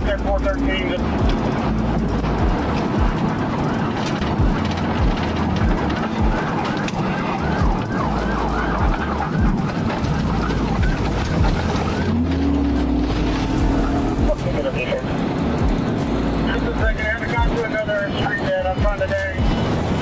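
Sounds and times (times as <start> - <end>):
car road and engine noise: 0.0 - 20.0
police siren yelping: 2.4 - 19.7.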